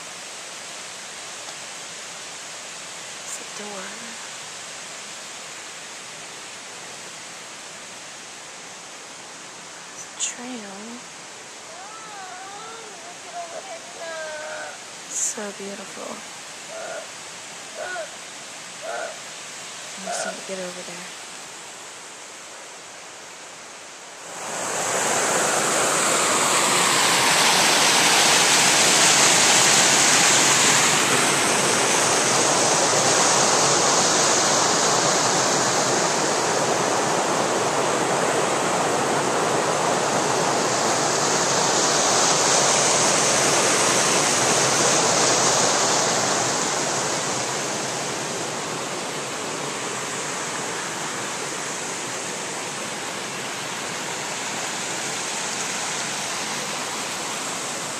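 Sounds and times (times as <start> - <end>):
flowing water rushing: 0.0 - 57.9.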